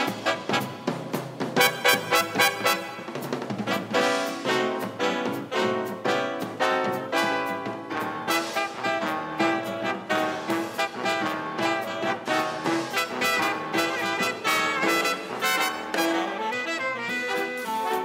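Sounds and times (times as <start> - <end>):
big-band swing music: 0.0 - 18.0.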